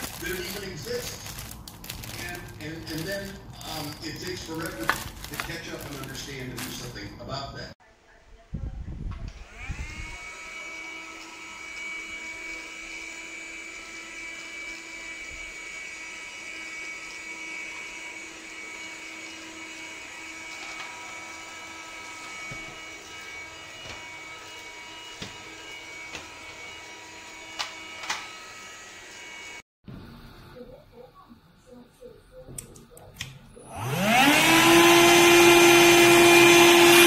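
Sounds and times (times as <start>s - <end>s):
vacuum cleaner motor whining: 0.0s - 7.0s, 9.3s - 29.6s, 33.6s - 37.0s.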